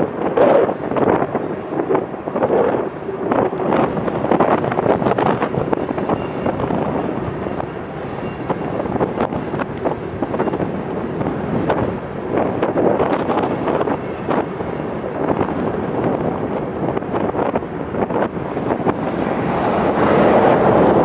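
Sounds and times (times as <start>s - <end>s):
steel wheels rumbling on rail: 0.0s - 21.0s
wind buffeting microphone: 0.0s - 21.0s.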